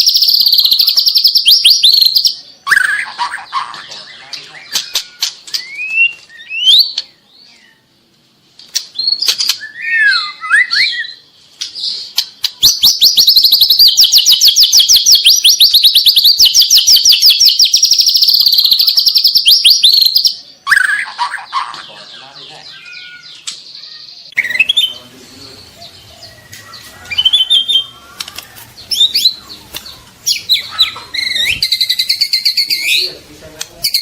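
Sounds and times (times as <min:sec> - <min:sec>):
bird singing: 0:00.0 - 0:08.1, 0:08.8 - 0:34.0.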